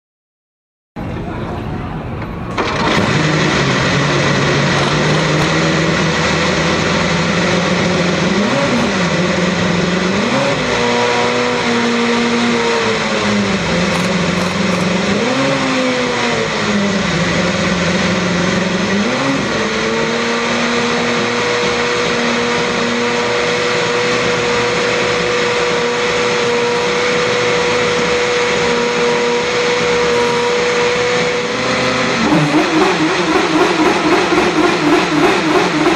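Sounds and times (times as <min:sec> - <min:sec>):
race car engine idling and revving: 0:01.0 - 0:35.9.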